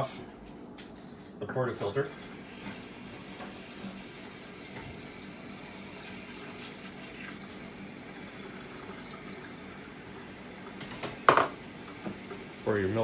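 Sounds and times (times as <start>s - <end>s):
water running: 1.8s - 13.0s.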